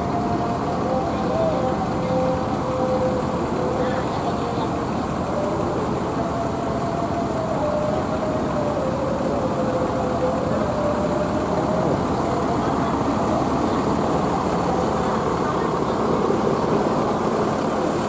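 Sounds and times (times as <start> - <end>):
bus engine idling: 0.0 - 18.0
thin drifting tone: 0.0 - 18.0.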